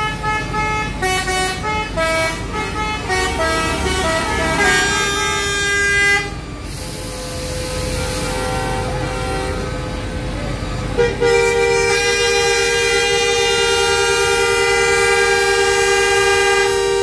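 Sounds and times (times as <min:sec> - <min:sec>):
musical bus horns honking: 0:00.0 - 0:17.0.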